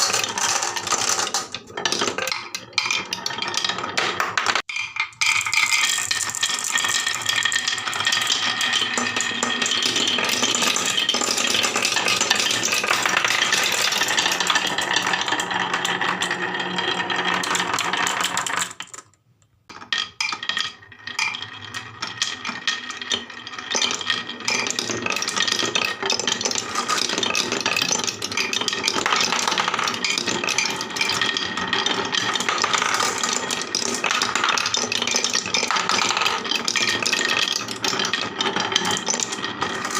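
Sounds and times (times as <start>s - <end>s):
marbles rattling down wooden run: 0.0s - 39.9s.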